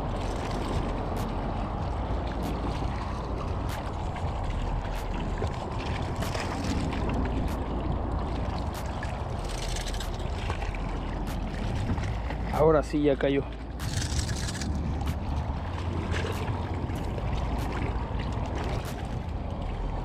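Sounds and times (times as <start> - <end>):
wind on microphone: 0.0 - 12.7, 13.6 - 20.0
water lapping at rocks: 0.0 - 20.0.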